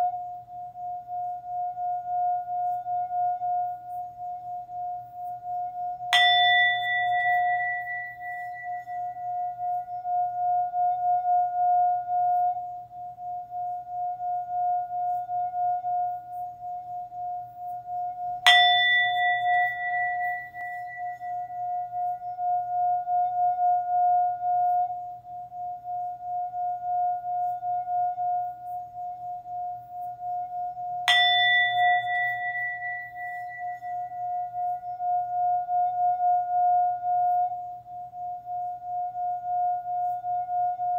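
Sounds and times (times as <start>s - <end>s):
singing bowl ringing: 0.0s - 40.9s.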